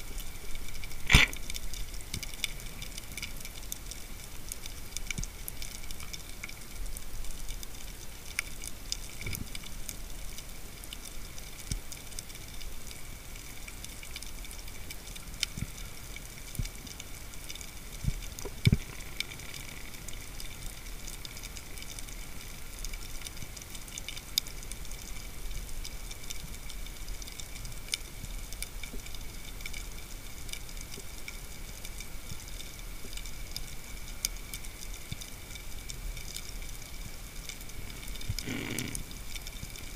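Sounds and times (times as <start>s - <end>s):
underwater hiss with crackling clicks: 0.0s - 39.9s.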